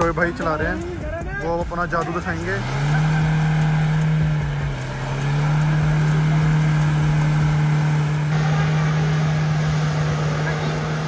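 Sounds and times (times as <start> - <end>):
engine at high revs: 0.0 - 11.0.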